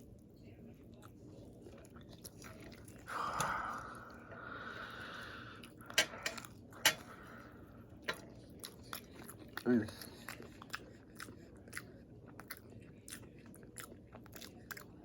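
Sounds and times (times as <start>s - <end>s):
person chewing fried chicken: 0.8s - 15.0s.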